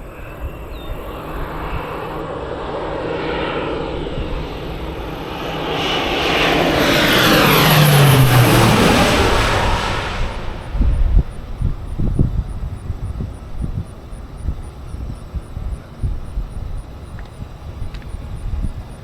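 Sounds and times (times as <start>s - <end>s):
propeller airplane flying overhead: 0.0s - 19.0s.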